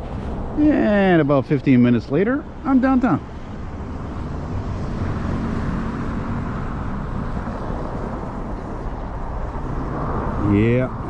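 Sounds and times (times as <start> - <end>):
low engine hum: 0.0 - 11.0
traffic rumble: 0.0 - 11.0.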